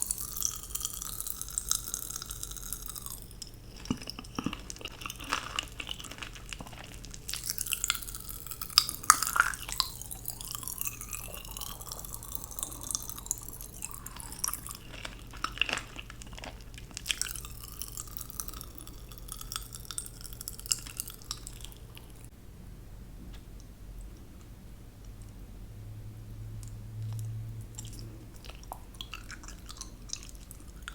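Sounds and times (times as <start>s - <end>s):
mouth chewing and sucking candy: 0.0s - 22.3s, 27.0s - 30.9s.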